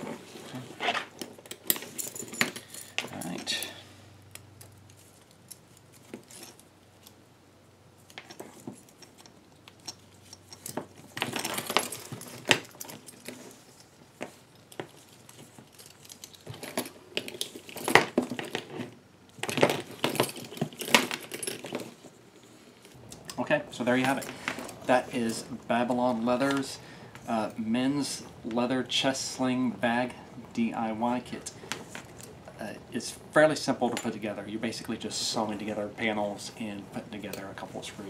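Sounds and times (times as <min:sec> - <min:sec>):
metal hooks and buckle clinking: 0:00.0 - 0:07.2, 0:08.0 - 0:28.5, 0:33.4 - 0:38.0.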